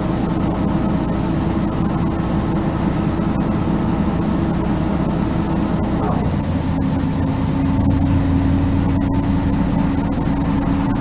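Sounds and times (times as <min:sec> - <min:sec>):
bus engine and drivetrain noise: 0:00.0 - 0:11.0
low hum: 0:00.0 - 0:11.0
road rumble: 0:00.0 - 0:11.0
thin high whine: 0:00.0 - 0:11.0.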